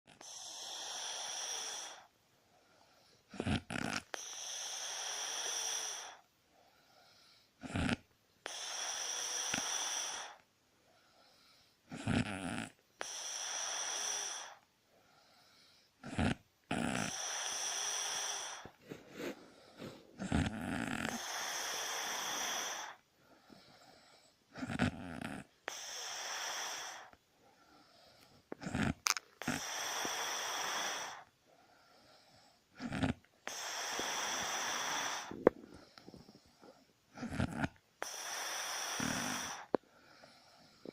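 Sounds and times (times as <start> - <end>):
pet snoring: 0.1 - 2.1, 2.9 - 10.4, 11.2 - 27.2, 27.8 - 40.9.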